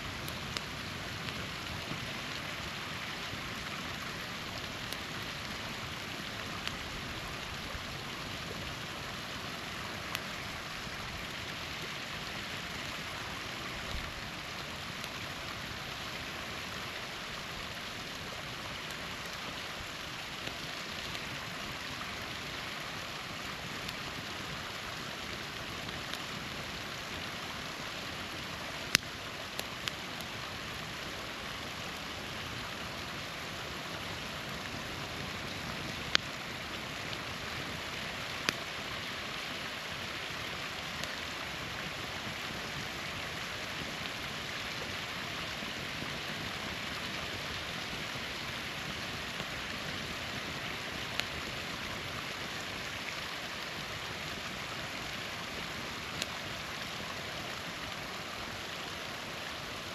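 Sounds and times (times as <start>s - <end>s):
small waterfall rushing: 0.0s - 59.9s
campfire crackling pops: 0.1s - 54.6s, 55.4s - 58.6s.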